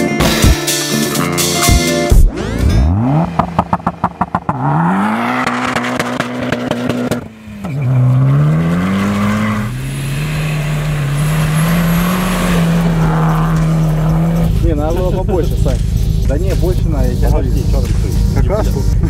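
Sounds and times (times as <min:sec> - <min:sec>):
car engine revving hard: 0:01.4 - 0:19.0.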